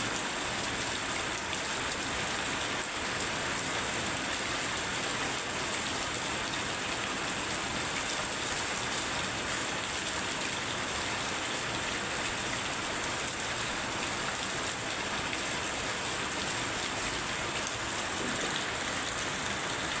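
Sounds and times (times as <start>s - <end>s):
very heavy rain: 0.0s - 20.0s.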